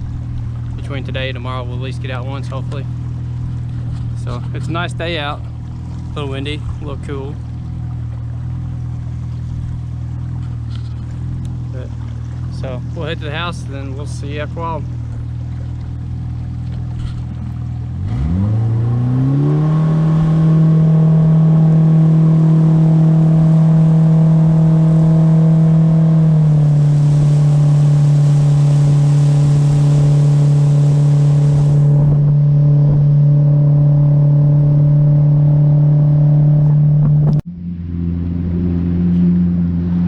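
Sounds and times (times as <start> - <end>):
motorboat engine revving: 0.0 - 40.0.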